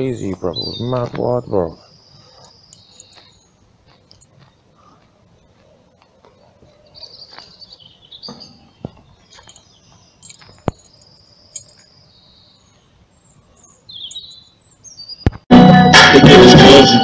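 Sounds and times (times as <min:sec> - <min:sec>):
birds singing: 0:00.0 - 0:15.4.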